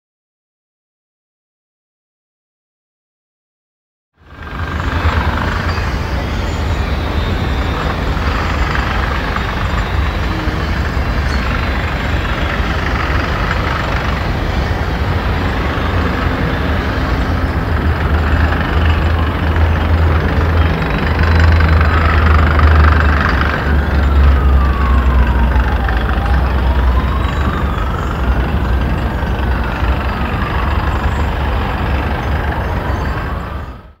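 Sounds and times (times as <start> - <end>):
city traffic rumble: 4.2 - 34.0
emergency siren wailing: 4.2 - 34.0
heavy vehicle passing: 4.2 - 34.0.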